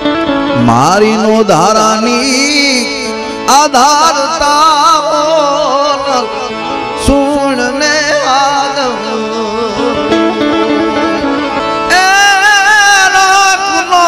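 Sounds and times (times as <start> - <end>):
wavering instrumental melody: 0.0 - 14.0
person singing: 0.4 - 14.0.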